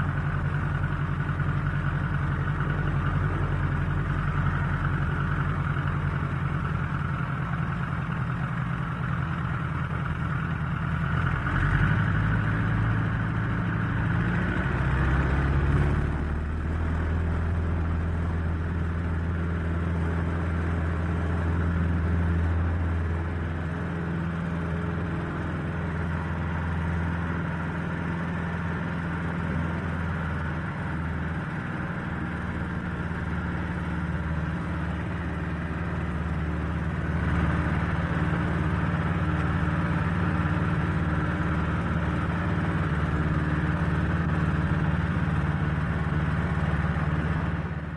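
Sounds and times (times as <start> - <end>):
airplane engines drone: 0.0 - 47.9.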